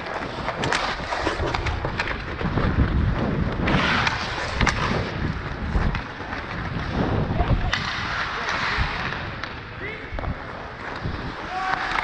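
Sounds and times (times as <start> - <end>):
clicks of sticks and puck: 0.0 - 2.9, 3.5 - 6.9, 7.5 - 12.0
skate blades scraping on ice: 0.0 - 12.0
wind buffeting microphone: 0.3 - 11.6.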